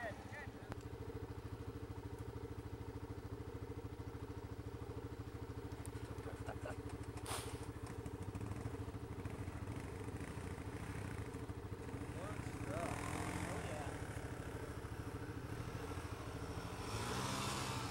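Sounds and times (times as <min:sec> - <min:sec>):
atv engine idling: 0:00.0 - 0:17.9.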